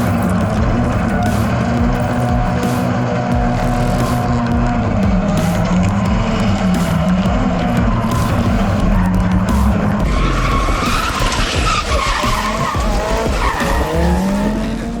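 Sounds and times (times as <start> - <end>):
background music: 0.0 - 15.0
car engine revving: 0.0 - 15.0
tyres skidding: 0.0 - 15.0.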